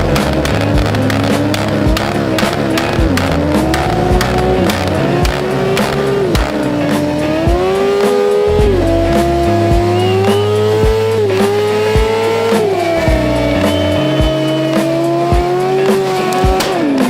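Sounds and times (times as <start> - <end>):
background music with beat: 0.0 - 17.0
motorcycle engine accelerating: 0.0 - 17.0.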